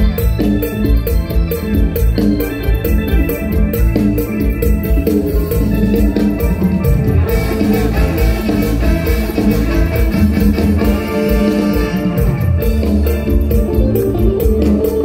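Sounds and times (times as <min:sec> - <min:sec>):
live band music with bass and beat: 0:00.0 - 0:15.0.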